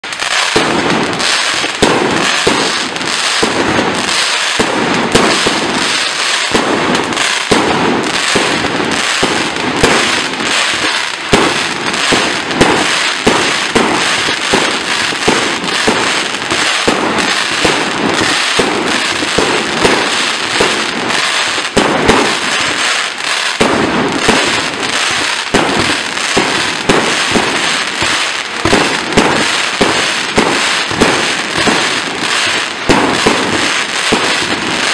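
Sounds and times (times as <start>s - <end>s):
fireworks shots bursting: 0.0s - 34.9s.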